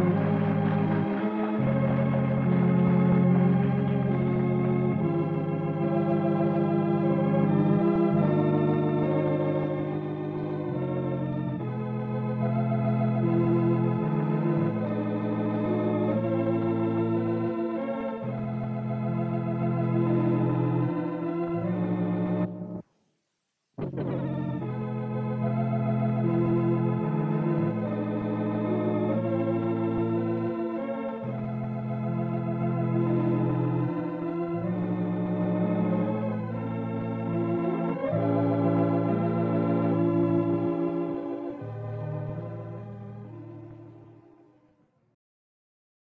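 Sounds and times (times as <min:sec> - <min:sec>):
organ playing slow chords: 0:00.0 - 0:22.8, 0:23.8 - 0:44.7.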